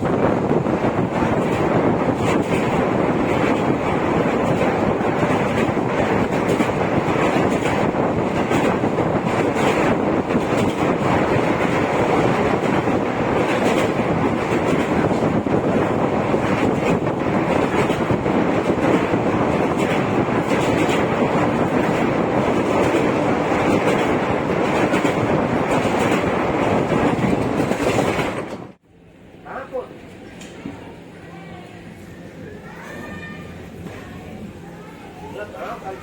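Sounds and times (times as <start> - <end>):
train wheels rumbling on rails: 0.0 - 28.8.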